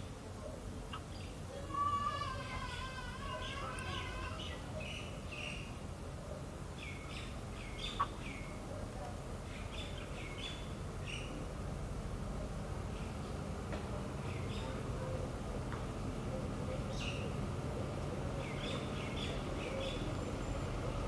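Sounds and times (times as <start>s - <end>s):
small birds chirping: 0.0s - 11.5s, 12.7s - 21.0s
low background hum: 0.0s - 21.0s.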